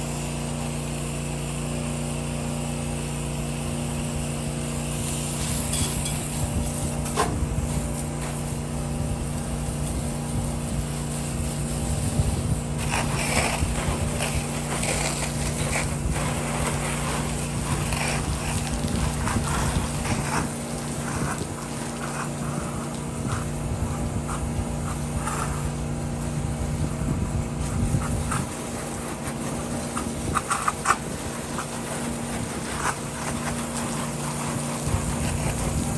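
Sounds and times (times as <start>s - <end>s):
pressure washer engine running: 0.0s - 35.9s.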